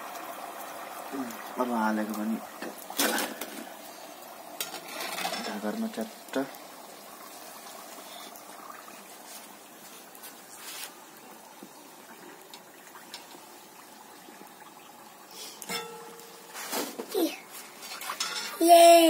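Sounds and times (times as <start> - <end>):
dough sizzling in hot oil: 0.0 - 19.0.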